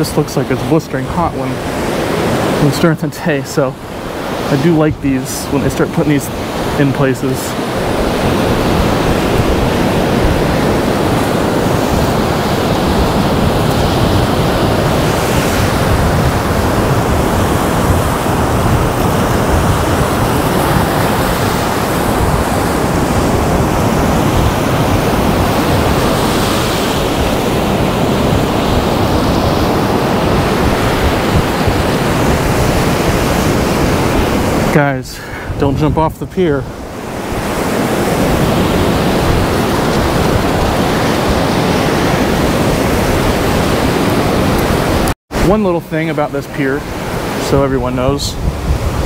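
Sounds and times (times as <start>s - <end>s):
ocean surf breaking: 0.0s - 49.0s
wind buffeting microphone: 3.3s - 45.1s, 46.7s - 49.0s.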